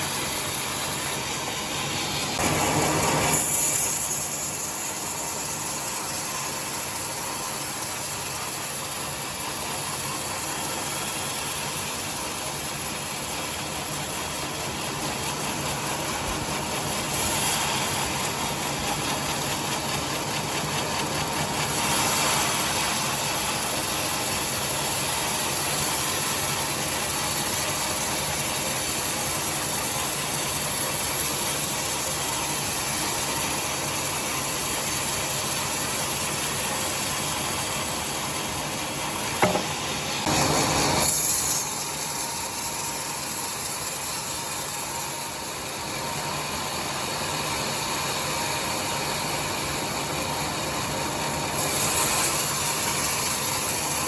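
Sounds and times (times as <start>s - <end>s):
sawmill machine hum: 0.0s - 54.0s.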